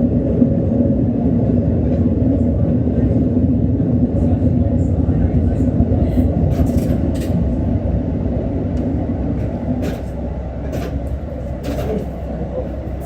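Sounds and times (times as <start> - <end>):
railcar rumbling along track: 0.0 - 13.0.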